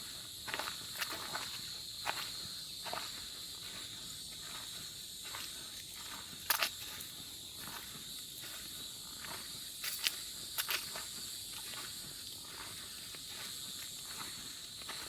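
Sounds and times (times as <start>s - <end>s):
footsteps on forest path: 0.0s - 15.0s
high insect drone: 0.0s - 15.0s.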